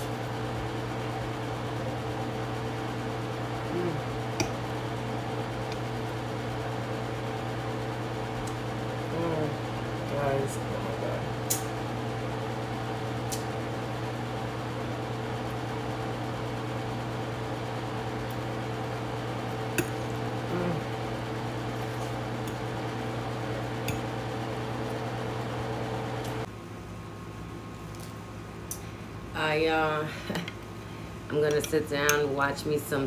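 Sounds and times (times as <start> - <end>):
kitchen appliance electrical hum: 0.0 - 33.0.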